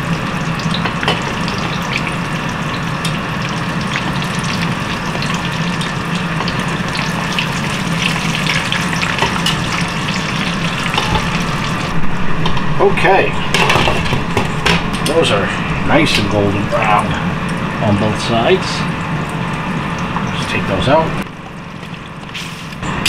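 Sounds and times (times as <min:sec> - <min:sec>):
oil sizzling with crackles and pops: 0:00.0 - 0:12.8, 0:13.4 - 0:23.0.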